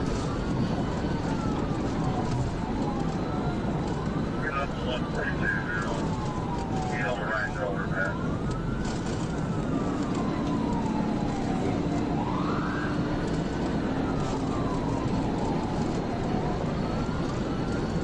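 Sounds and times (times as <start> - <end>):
car road and engine noise: 0.0 - 18.0
police siren wailing: 0.0 - 18.0.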